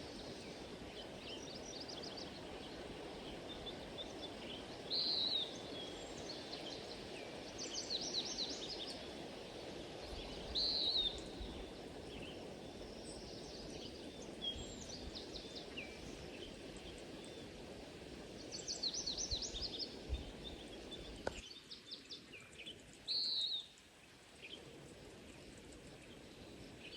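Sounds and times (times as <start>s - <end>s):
songbirds chirping and trilling: 0.0s - 26.9s.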